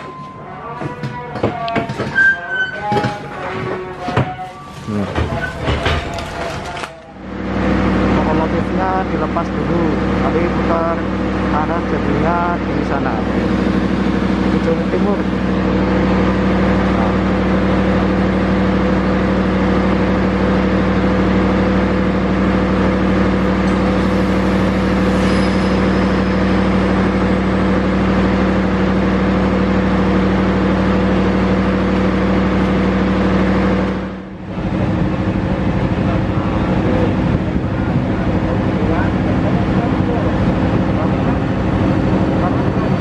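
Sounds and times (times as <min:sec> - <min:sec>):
train diesel engine humming: 0:02.9 - 0:43.0.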